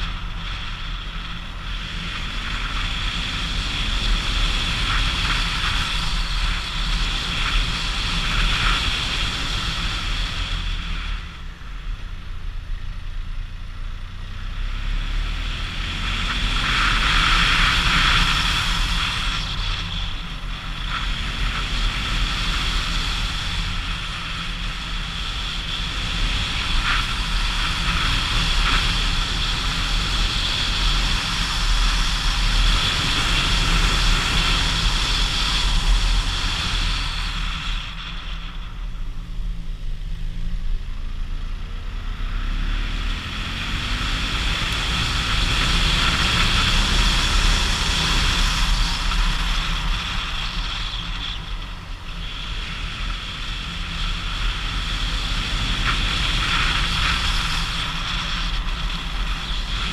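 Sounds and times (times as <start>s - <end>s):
wind rushing over microphone: 0.0s - 12.9s, 14.4s - 59.9s
motorcycle engine: 0.0s - 59.9s.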